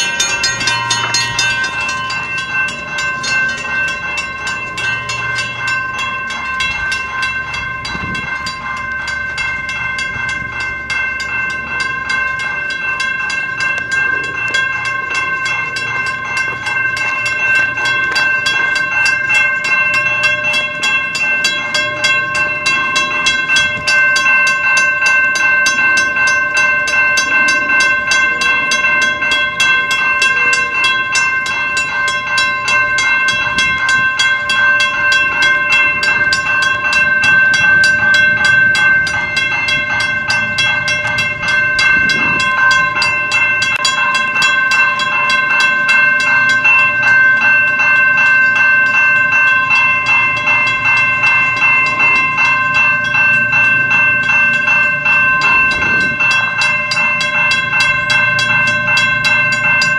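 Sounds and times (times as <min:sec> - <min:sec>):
railroad crossing bells ringing: 0:00.0 - 0:59.9.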